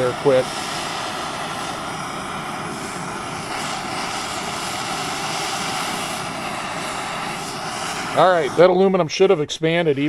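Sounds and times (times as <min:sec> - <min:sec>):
gas torch hissing: 0:00.0 - 0:09.4.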